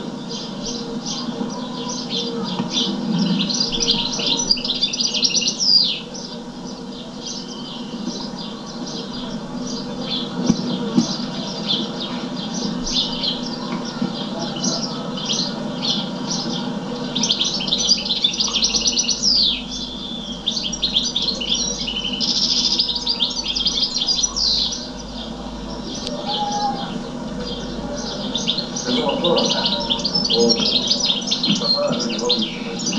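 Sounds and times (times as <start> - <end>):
songbird chirping and trilling: 0.0 - 32.9
steady low hum: 0.0 - 32.9.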